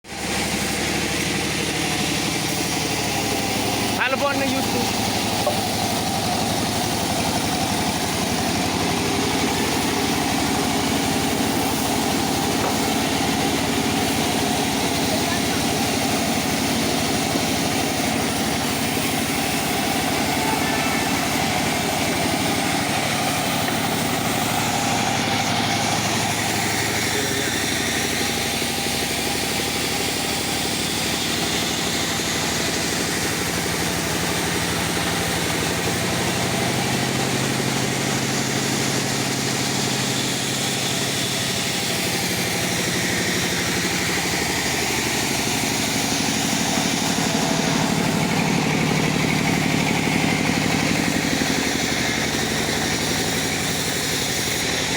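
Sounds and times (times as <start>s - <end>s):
circular saw running: 0.0s - 54.9s.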